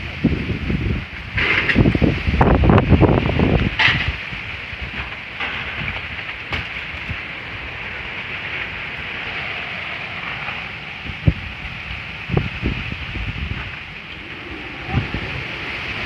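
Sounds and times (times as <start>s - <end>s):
strong wind rumbling on microphone: 0.0s - 16.0s.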